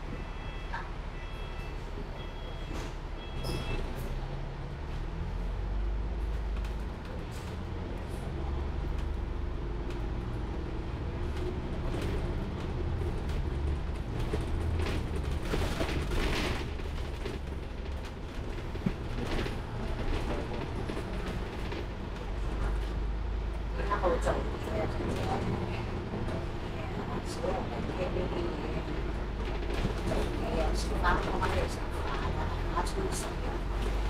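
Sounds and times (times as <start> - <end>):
bus engine rumble: 0.0 - 34.0
road noise: 0.0 - 34.0.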